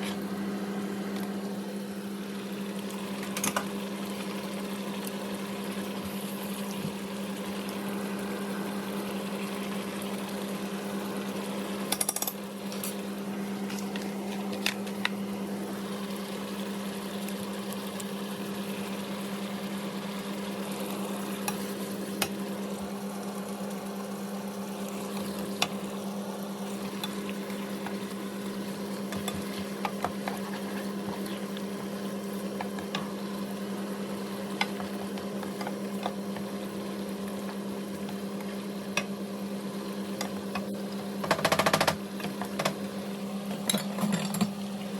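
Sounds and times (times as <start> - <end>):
food sizzling in a pan: 2.1 - 40.5.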